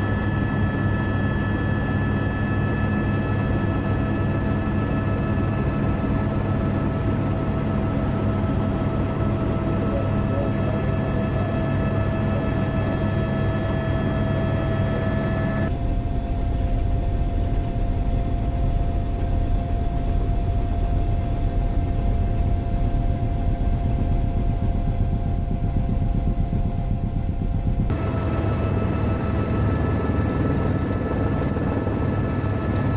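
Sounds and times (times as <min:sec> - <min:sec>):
aircraft engine drone: 0:00.0 - 0:32.9.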